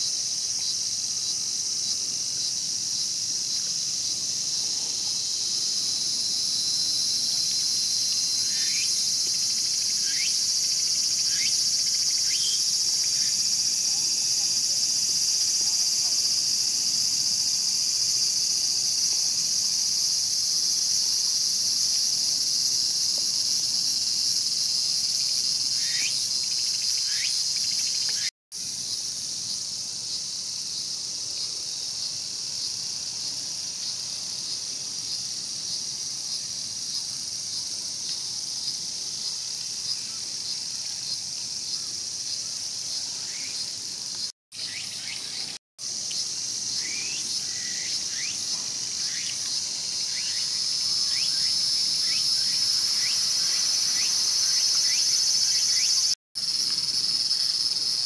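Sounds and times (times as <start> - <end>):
cicada chorus buzzing: 0.0 - 58.0.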